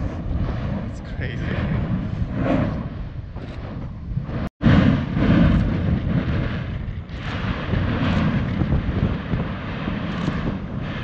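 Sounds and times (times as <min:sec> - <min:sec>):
volcano rumbling roar: 0:00.0 - 0:11.0
wind buffeting microphone: 0:00.0 - 0:11.0.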